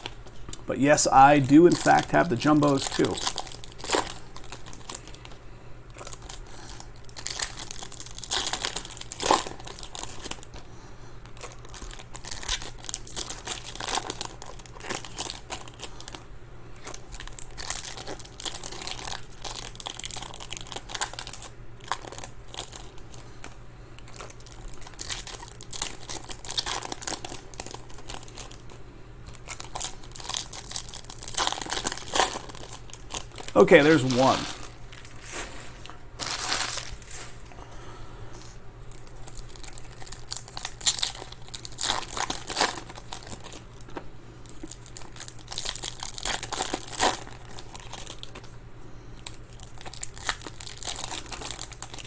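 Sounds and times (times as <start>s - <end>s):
card wrappers crinkling: 0.0s - 10.6s, 11.2s - 37.6s, 38.8s - 48.5s, 49.2s - 52.0s
wrapper tearing: 1.4s - 5.4s, 6.0s - 10.5s, 11.4s - 16.2s, 16.8s - 23.0s, 24.0s - 28.7s, 29.3s - 37.5s, 38.9s - 48.5s, 49.2s - 52.0s.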